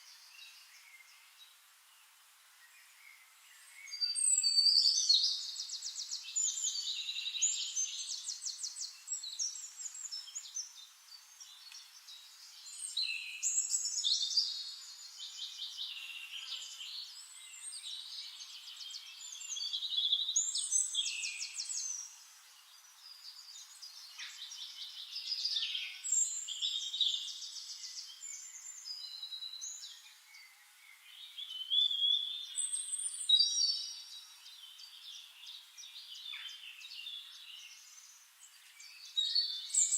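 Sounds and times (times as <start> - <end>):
songbirds trilling and warbling: 0.0 - 39.9.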